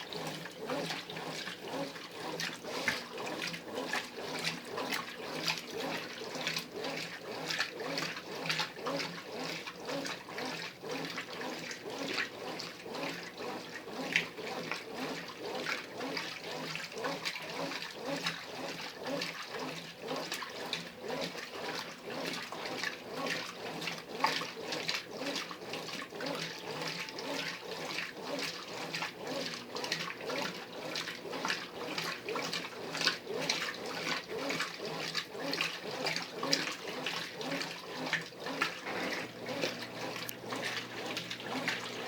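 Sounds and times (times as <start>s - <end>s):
washing machine sloshing and churning: 0.0s - 42.0s.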